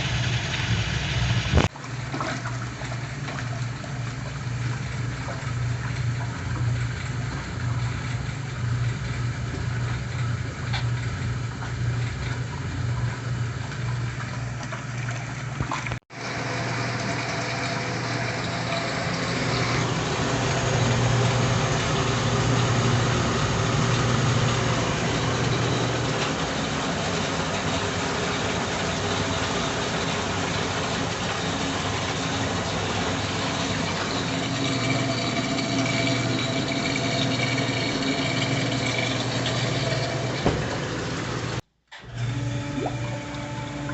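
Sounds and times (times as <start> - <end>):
washing machine motor hum: 0.0 - 43.9
water churning: 0.0 - 43.9.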